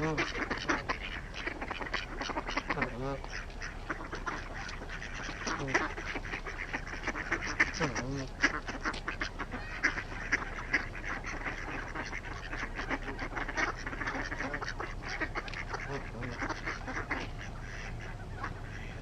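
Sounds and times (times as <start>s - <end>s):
ducks quacking: 0.0s - 19.0s
geese honking: 0.0s - 19.0s.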